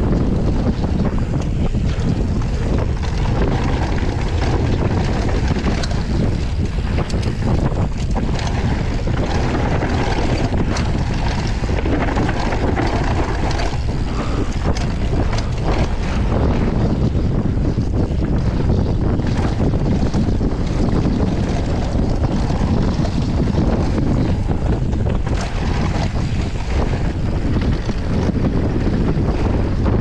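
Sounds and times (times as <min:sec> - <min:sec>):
bike clicking and rattling: 0:00.0 - 0:30.0
low rumble of bike tyres: 0:00.0 - 0:30.0
wind buffeting microphone: 0:00.0 - 0:30.0.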